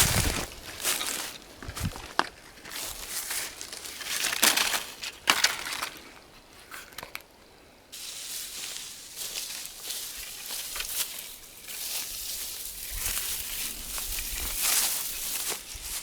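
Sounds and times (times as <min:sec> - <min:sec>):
footsteps crunching on forest ground: 0:00.0 - 0:07.1, 0:08.0 - 0:16.0.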